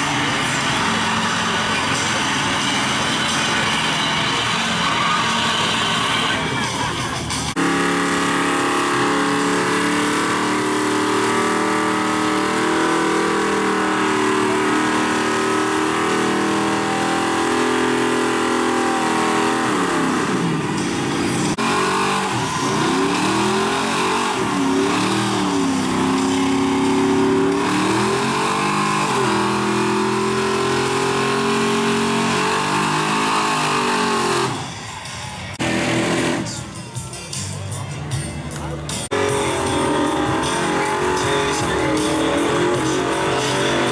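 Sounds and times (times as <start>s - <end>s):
engine revving: 0.0s - 36.8s, 39.0s - 43.9s.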